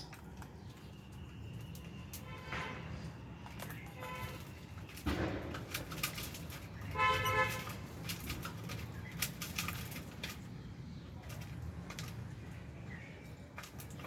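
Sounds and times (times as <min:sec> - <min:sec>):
birds chirping and clicking: 0:00.0 - 0:14.0.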